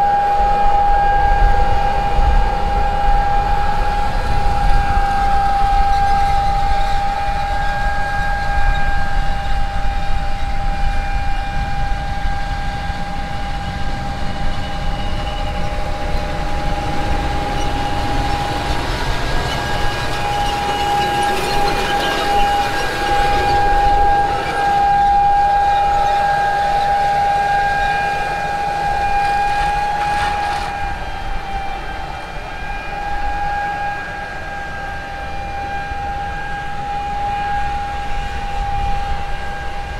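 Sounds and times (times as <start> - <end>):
high-pitched mechanical whine: 0.0 - 39.9.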